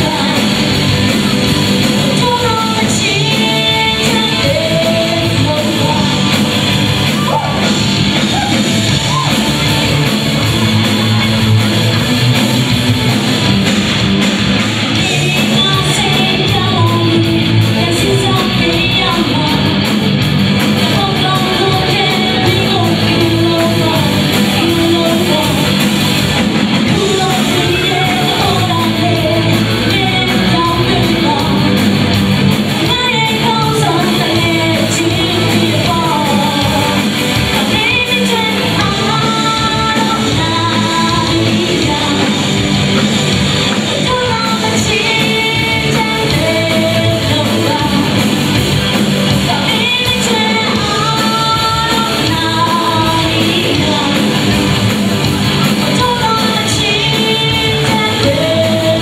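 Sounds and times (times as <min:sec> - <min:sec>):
woman singing: 0:00.0 - 0:09.7, 0:14.9 - 0:20.0, 0:20.8 - 0:25.9, 0:26.8 - 0:32.0, 0:32.7 - 0:42.8, 0:43.7 - 0:48.6, 0:49.3 - 0:54.8, 0:55.5 - 0:59.0
live rock band playing: 0:00.0 - 0:59.0.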